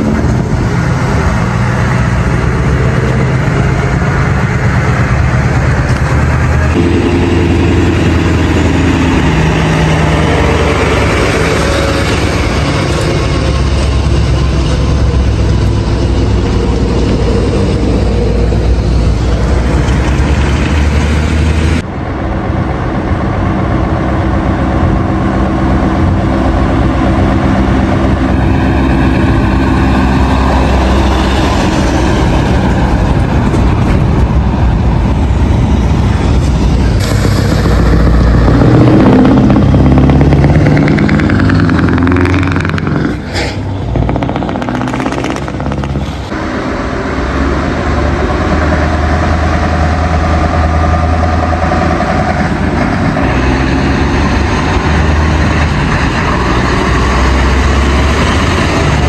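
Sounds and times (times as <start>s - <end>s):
truck diesel engines: 0.0s - 59.0s.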